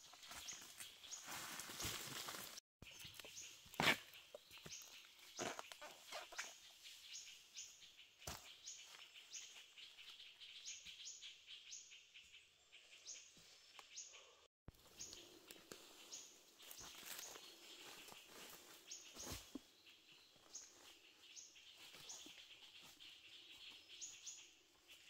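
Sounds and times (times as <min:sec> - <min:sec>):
small bird chirping: 0:02.8 - 0:25.0.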